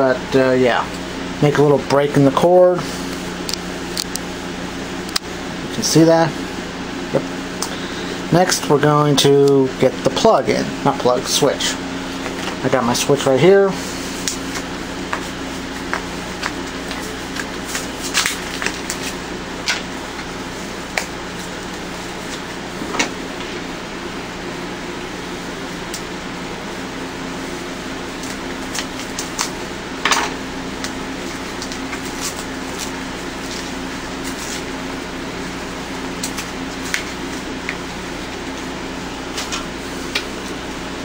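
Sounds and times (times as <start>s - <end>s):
steady mechanical hum: 0.0s - 41.0s.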